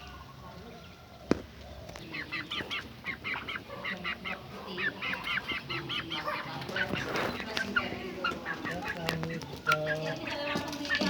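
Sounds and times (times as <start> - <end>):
birds calling rapidly: 0.0 - 11.0.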